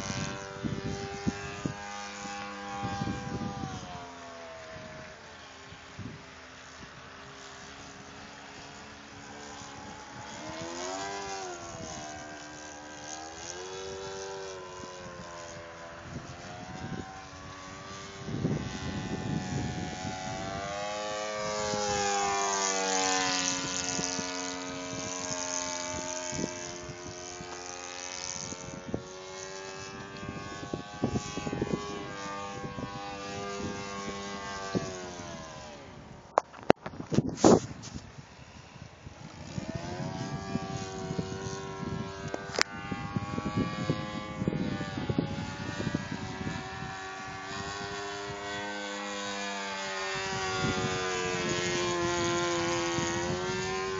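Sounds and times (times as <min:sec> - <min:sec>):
model plane engine drone: 0:00.0 - 0:53.9.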